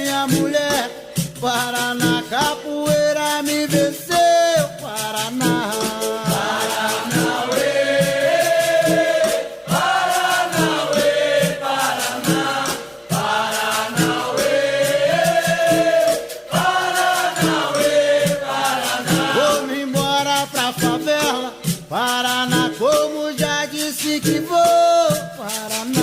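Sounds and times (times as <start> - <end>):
clicking percussion rhythm: 0.0 - 26.0
group of voices singing: 1.6 - 24.5, 25.1 - 26.0.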